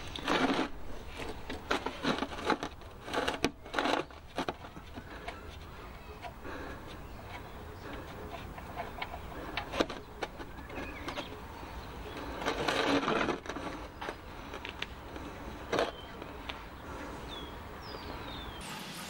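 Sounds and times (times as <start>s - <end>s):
plastic pan scraping: 0.0s - 16.4s.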